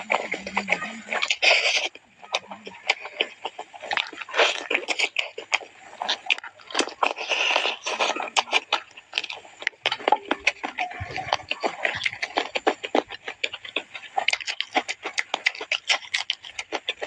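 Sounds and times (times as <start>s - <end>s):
chewing crunches and mouth clicks: 0.0s - 17.0s.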